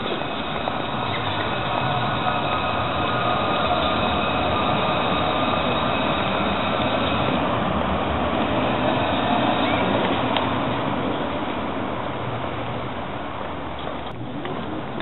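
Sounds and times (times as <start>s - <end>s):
faint tram whine: 0.0s - 15.0s
tram rolling rumble: 0.0s - 15.0s.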